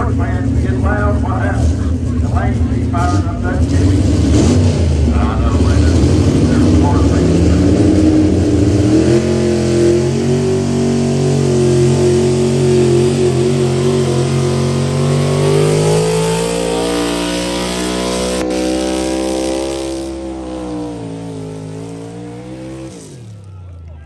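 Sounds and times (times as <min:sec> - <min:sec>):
engine running at high revs: 0:00.0 - 0:23.6.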